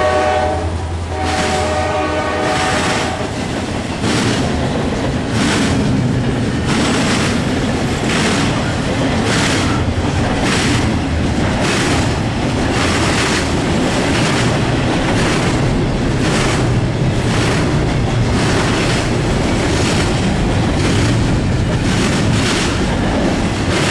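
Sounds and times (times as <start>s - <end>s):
steel wheels rumbling on rails: 0.0s - 23.9s.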